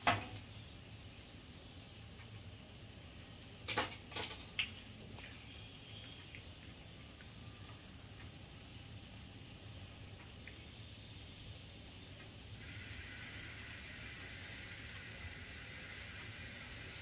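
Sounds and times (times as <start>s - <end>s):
spices sizzling in oil: 0.0s - 17.0s.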